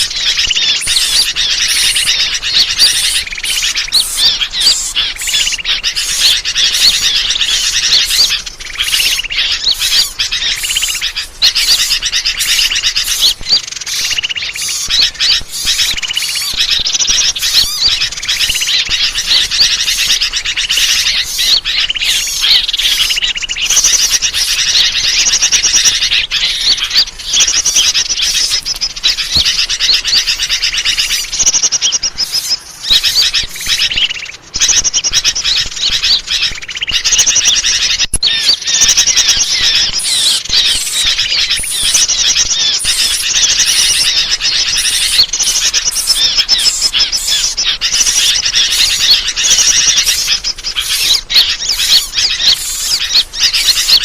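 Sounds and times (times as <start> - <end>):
small birds chirping chorus: 0.0 - 54.0.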